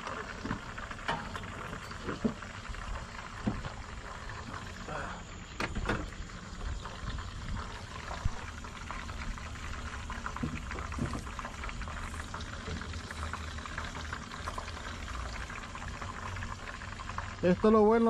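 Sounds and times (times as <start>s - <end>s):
oil sizzling in frying pan: 0.0s - 18.0s.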